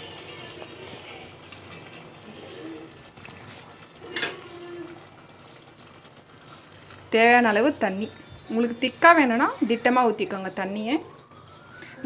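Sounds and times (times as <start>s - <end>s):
ladle stirring and pouring gravy: 0.0s - 12.0s.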